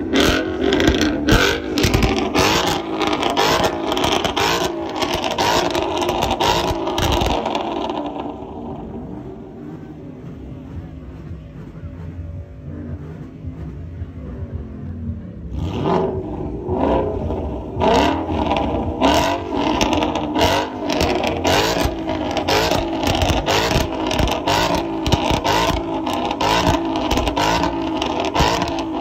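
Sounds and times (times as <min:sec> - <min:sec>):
car exhaust revving: 0:00.0 - 0:29.0.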